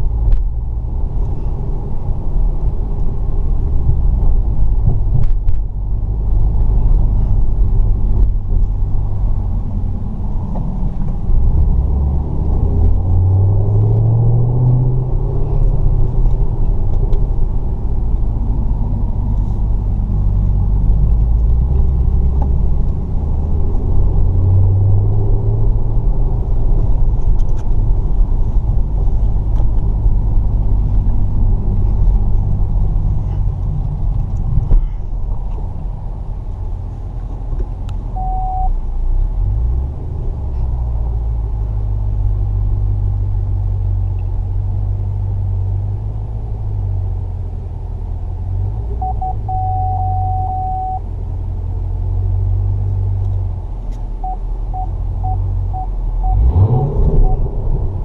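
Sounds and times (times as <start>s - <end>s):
car engine deep rumble: 0.0s - 58.0s.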